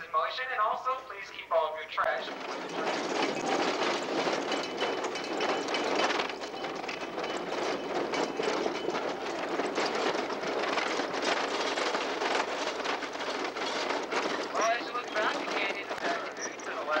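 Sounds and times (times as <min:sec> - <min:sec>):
train wheels clattering on rail: 0:02.0 - 0:17.0.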